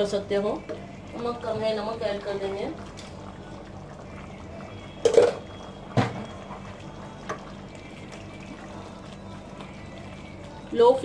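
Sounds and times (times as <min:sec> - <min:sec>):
rice bubbling in boiling water: 0:00.0 - 0:11.0.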